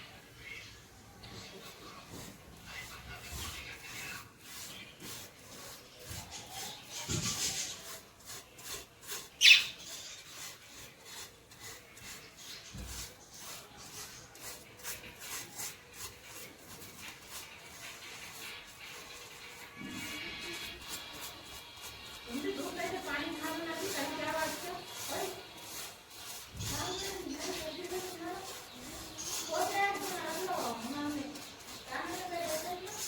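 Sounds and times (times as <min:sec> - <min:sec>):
scraping on a hard surface: 0:01.2 - 0:33.0.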